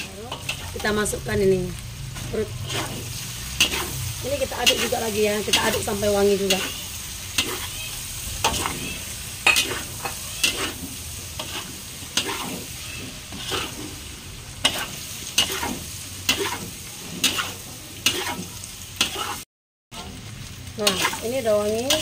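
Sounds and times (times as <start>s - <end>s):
metal spatula scraping wok: 0.0s - 19.4s, 20.8s - 22.0s
food sizzling in oil: 0.0s - 22.0s.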